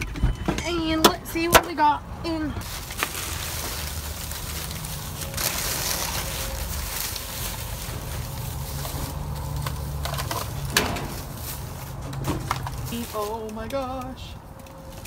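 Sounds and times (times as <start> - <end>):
plastic bags and bubble wrap rustling: 2.6 - 15.0.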